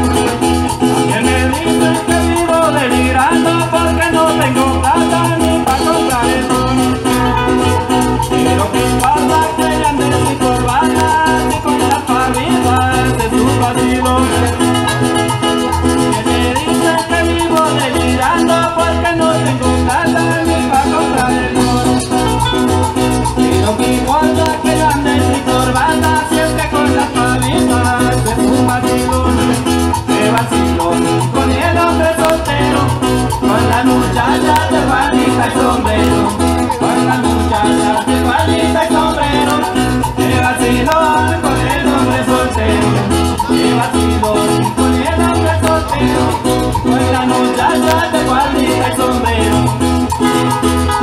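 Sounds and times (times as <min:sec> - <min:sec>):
acoustic guitars playing: 0:00.0 - 0:51.0
bouncing bass beat: 0:00.0 - 0:51.0.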